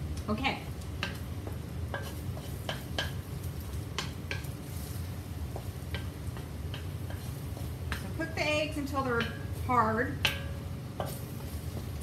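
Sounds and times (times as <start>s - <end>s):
faint sizzle: 0.0s - 12.0s
steady low hum: 0.0s - 12.0s
spatula scraping and tapping wok: 0.2s - 12.0s.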